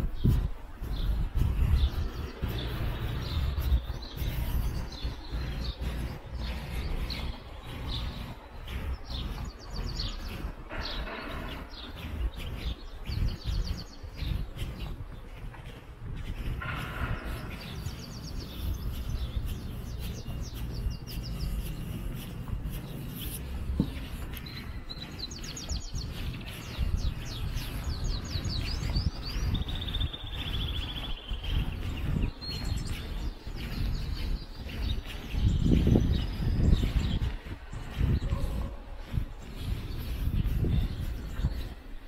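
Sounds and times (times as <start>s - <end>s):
low outdoor rumble: 0.0s - 41.3s
small songbirds chirping: 0.0s - 42.0s.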